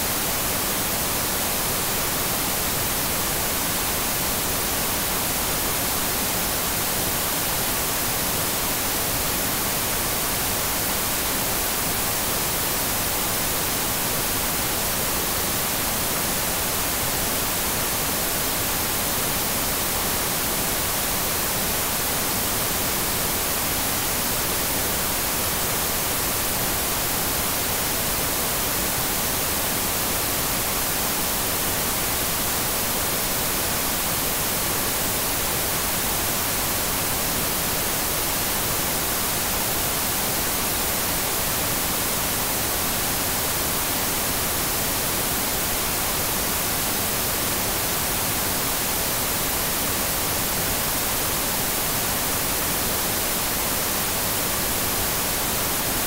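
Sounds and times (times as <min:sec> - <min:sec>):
tv static hiss: 0:00.0 - 0:56.0.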